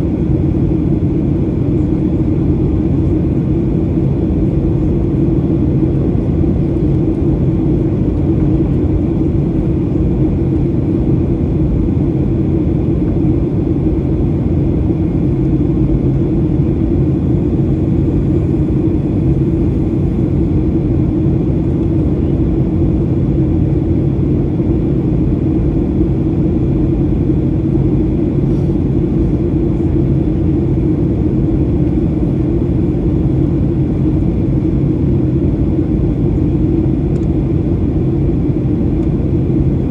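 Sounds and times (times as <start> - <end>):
airplane cabin rumble: 0.0 - 39.9
low steady hum: 1.6 - 39.9.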